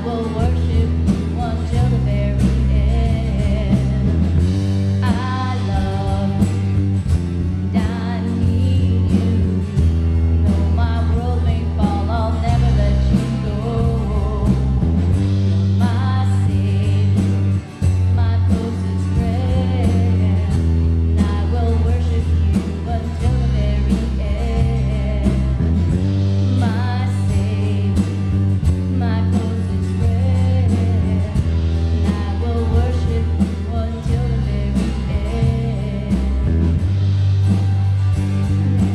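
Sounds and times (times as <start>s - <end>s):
person singing: 0.0s - 4.4s, 5.0s - 7.0s, 7.6s - 36.7s
band worship song: 0.0s - 38.9s
electric bass long low notes: 0.0s - 38.9s
guitar: 0.0s - 38.9s.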